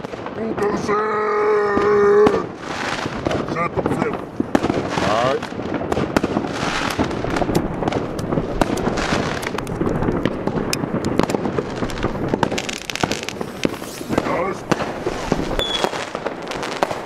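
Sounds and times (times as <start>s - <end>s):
firework launch thumps and bangs: 1.8s - 17.0s.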